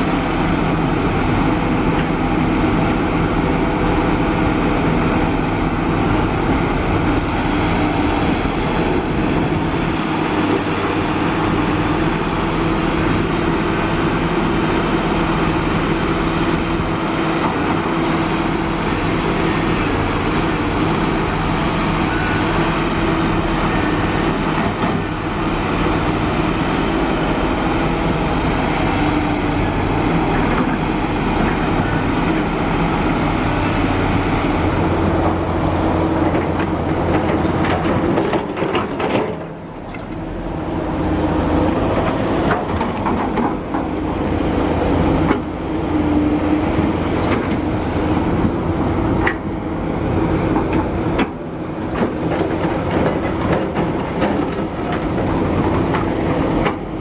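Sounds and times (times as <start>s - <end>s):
excavator diesel engine drone: 0.0s - 57.0s.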